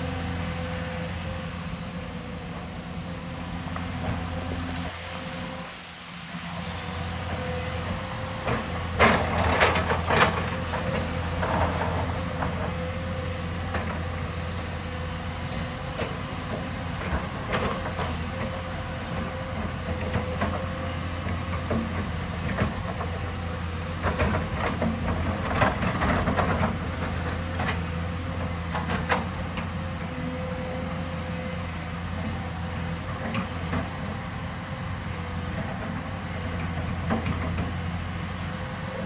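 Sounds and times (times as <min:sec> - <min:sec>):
excavator diesel engine running: 0:00.0 - 0:39.0
hydraulic whine: 0:00.0 - 0:39.0.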